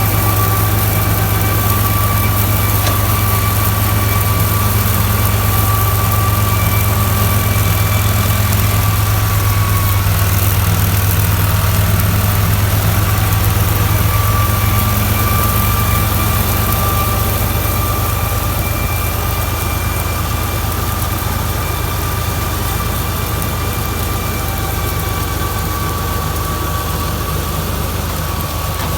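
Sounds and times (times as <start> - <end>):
high whine: 0.0 - 28.9
tractor engine droning: 0.0 - 28.9.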